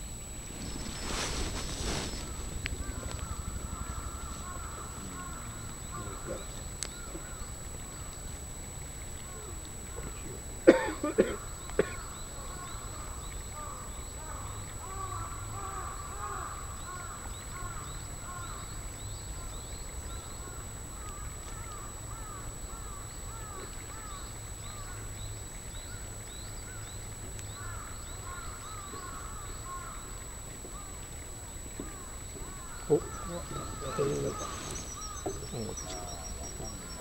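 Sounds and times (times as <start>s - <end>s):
faint high whine: 0.0s - 37.0s
birds chirping: 0.4s - 37.0s.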